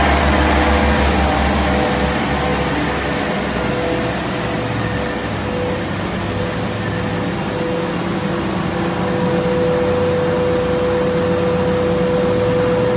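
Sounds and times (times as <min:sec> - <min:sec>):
grinding machine whirring: 0:00.0 - 0:12.9.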